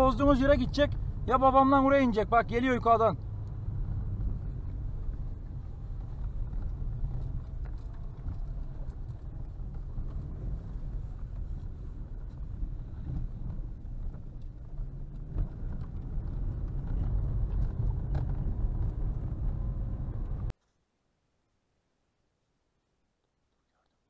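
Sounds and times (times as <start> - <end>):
car engine and road rumble: 0.0 - 20.6.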